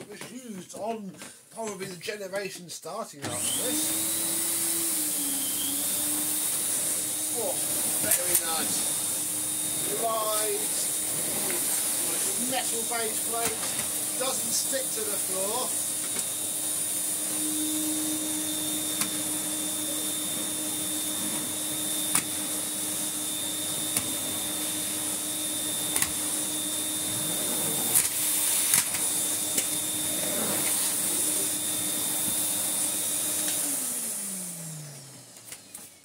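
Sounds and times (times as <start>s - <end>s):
vacuum cleaner running: 3.2s - 36.0s
vacuum motor winding down: 3.2s - 36.0s.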